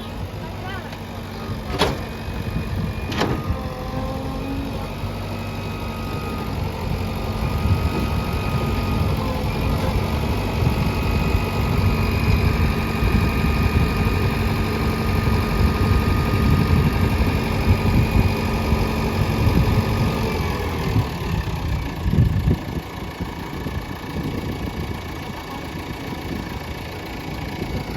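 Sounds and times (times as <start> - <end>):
heavy machinery diesel engine running: 0.0 - 27.9.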